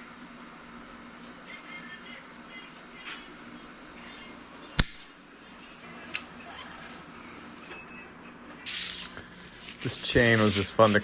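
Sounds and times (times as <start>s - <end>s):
faint hum: 0.0s - 10.3s.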